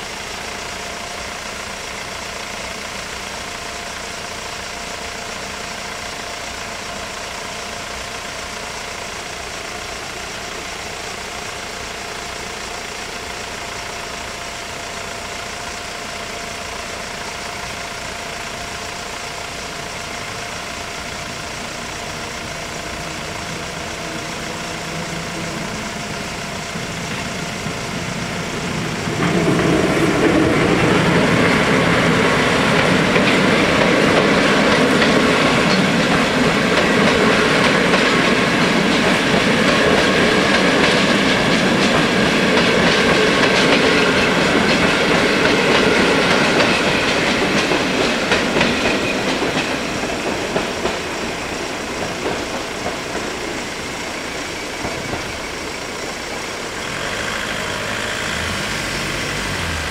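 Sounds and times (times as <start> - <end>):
car engines idling: 0.0 - 59.9
train wheels clattering on rails: 0.3 - 59.9.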